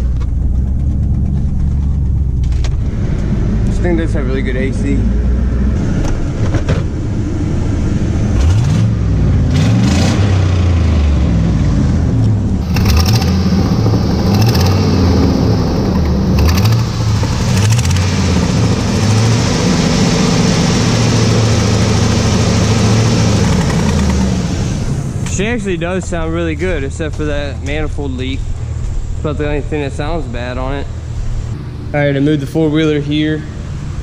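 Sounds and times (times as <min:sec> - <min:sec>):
diesel engine revving: 0:00.0 - 0:34.0.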